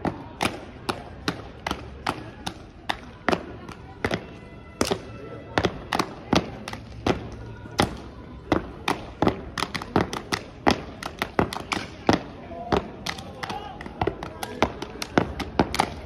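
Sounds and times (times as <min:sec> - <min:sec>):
hand claps: 0:00.4 - 0:04.2, 0:05.6 - 0:08.1, 0:08.8 - 0:16.0.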